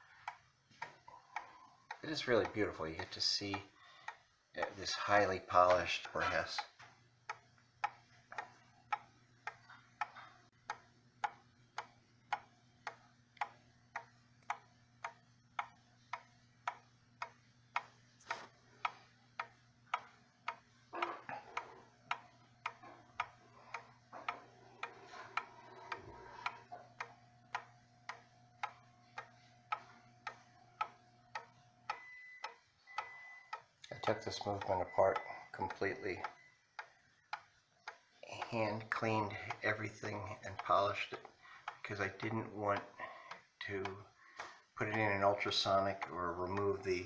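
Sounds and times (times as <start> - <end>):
wall clock ticking: 0.0 - 47.0.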